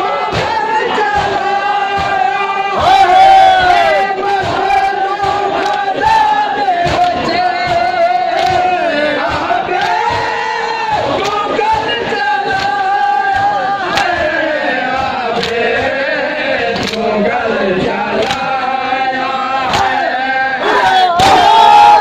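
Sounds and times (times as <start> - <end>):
men chanting a lament: 0.0 - 22.0
hands beating chests: 0.1 - 16.1, 17.8 - 20.2.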